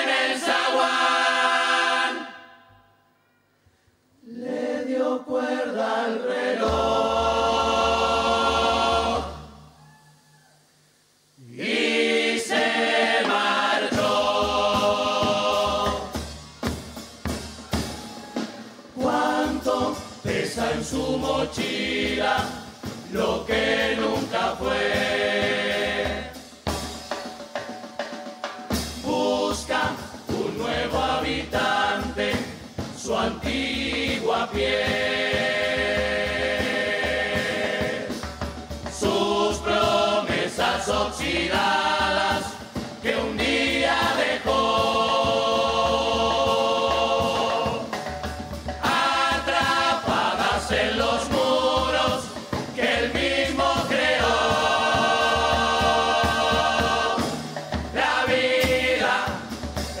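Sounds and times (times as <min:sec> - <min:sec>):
chorus singing in harmony: 0:00.0 - 0:02.9, 0:04.2 - 0:09.8, 0:11.4 - 0:27.7, 0:28.7 - 1:00.0
bass drum and snare strokes: 0:06.4 - 0:09.5, 0:11.6 - 1:00.0.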